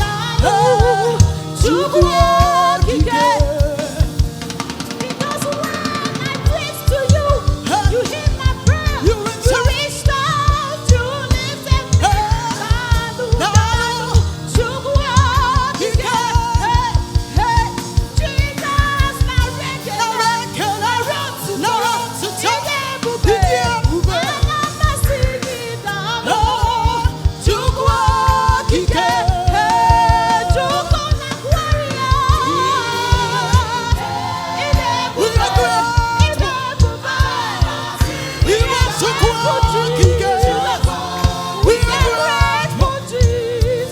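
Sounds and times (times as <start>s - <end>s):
choir singing gospel song: 0.0s - 43.9s
live band: 0.0s - 43.9s
steady drum beat: 0.0s - 43.9s.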